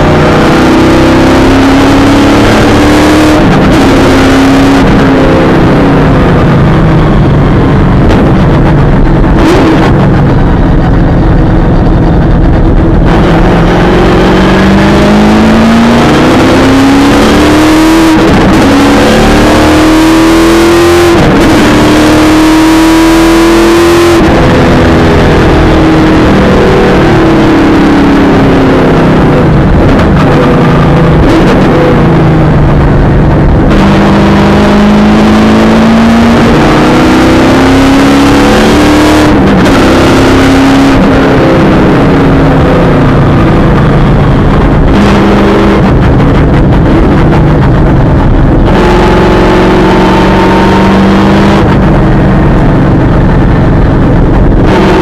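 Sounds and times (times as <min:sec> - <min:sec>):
race car engine revving: 0:00.0 - 0:55.0
road and wind noise: 0:00.0 - 0:55.0.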